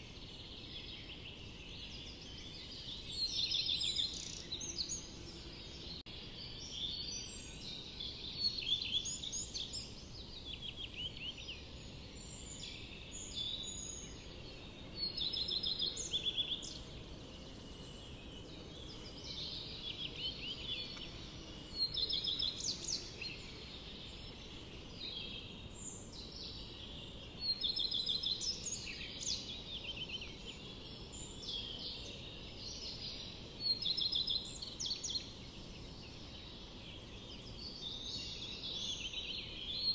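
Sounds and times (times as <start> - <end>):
songbirds singing trilled notes: 0.0 - 39.9.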